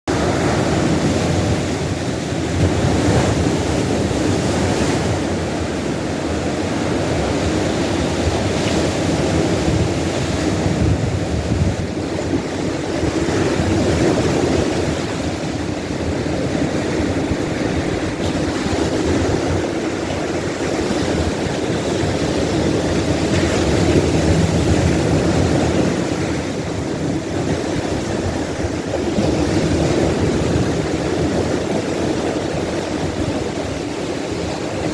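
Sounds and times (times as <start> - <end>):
ocean waves breaking on beach: 0.1 - 34.9.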